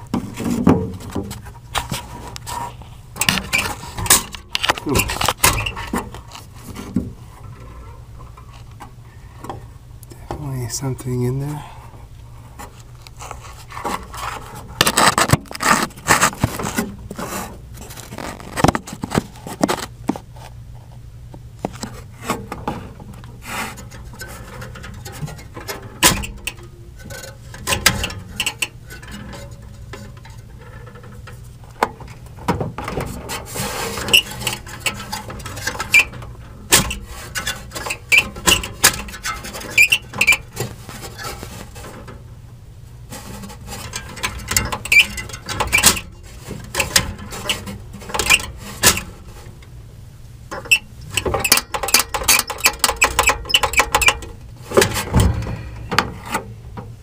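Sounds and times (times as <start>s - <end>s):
metallic scraping in blower housing: 0.0s - 21.0s, 21.6s - 57.0s.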